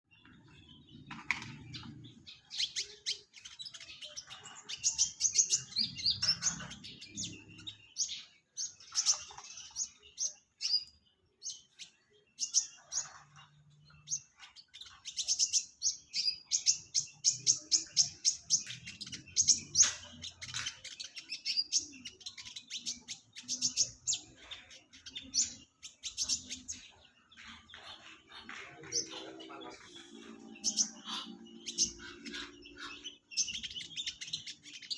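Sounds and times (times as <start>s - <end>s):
bird chirping and trilling: 0.1s - 34.9s.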